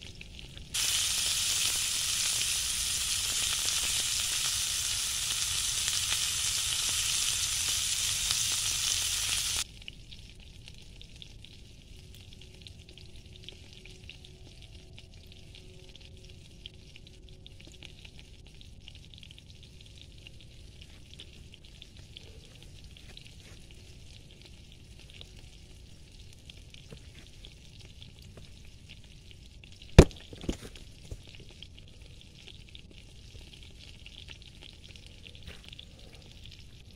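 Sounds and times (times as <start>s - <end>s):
campfire crackling: 0.0s - 36.9s
campfire popping: 0.0s - 36.9s.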